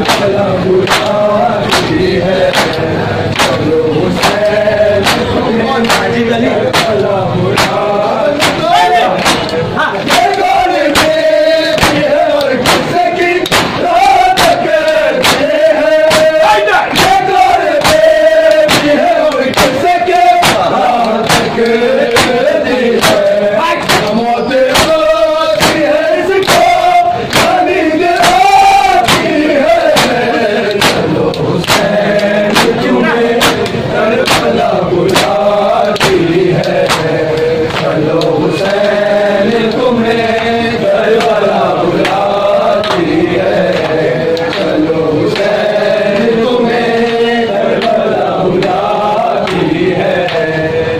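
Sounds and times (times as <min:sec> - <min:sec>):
hands slapping chests: 0:00.0 - 0:39.0, 0:41.1 - 0:46.4
men chanting in unison: 0:00.0 - 0:50.9.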